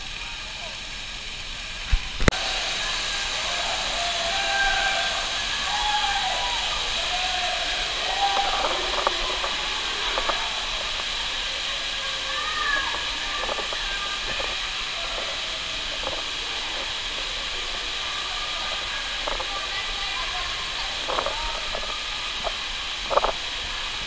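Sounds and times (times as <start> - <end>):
waterfall splashing into river: 0.0 - 24.0.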